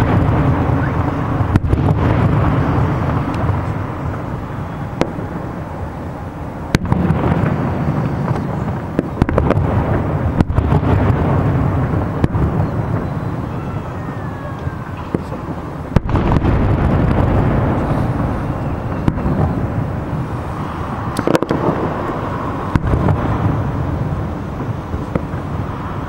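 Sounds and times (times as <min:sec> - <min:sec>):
fireworks bursting with booms: 0:00.0 - 0:26.0
sharp firework cracks: 0:00.0 - 0:26.0.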